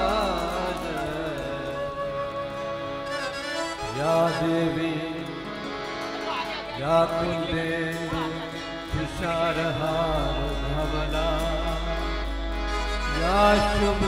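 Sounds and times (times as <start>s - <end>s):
man singing: 0.0s - 5.7s, 6.4s - 14.0s
harmonium: 0.0s - 14.0s.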